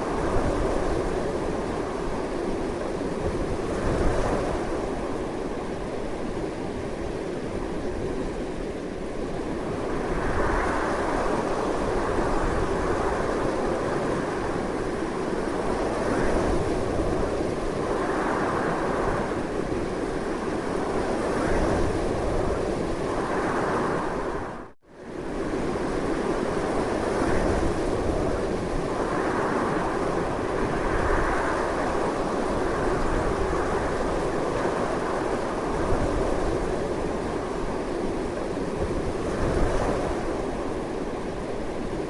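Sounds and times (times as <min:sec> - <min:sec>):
strong wind blowing: 0:00.0 - 0:42.0.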